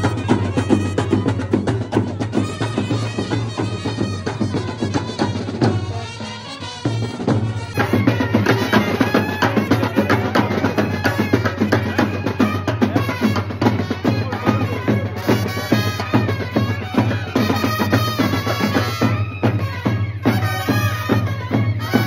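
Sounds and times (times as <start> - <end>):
bass drums and snare drums: 0.0 - 22.0
brass band playing: 0.0 - 22.0
trumpets: 0.0 - 22.0.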